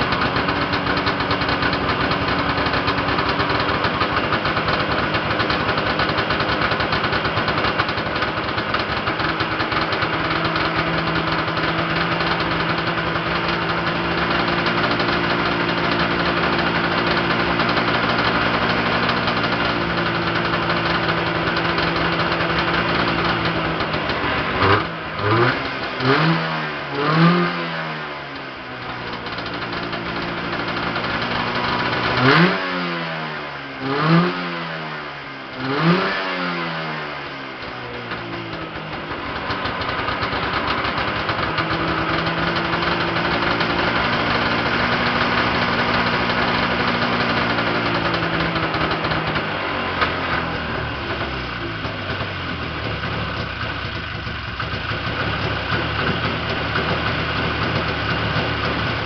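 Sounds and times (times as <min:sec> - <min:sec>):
snowmobile engine idling and revving: 0:00.0 - 0:59.0.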